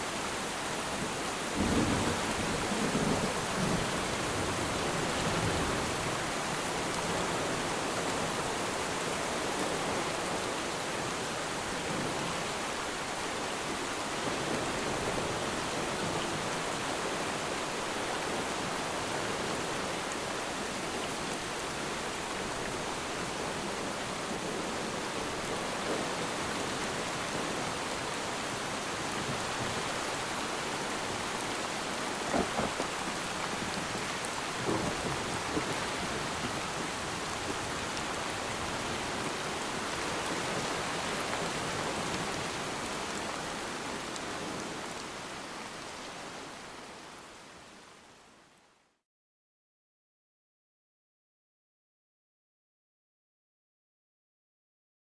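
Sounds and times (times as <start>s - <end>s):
rain falling on water: 0.0s - 48.9s.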